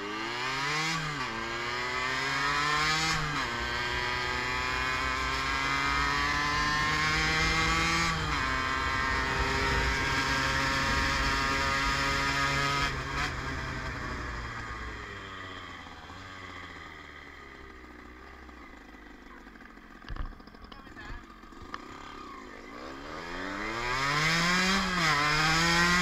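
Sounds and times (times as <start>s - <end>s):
two-stroke motorcycle engine accelerating: 0.0s - 26.0s.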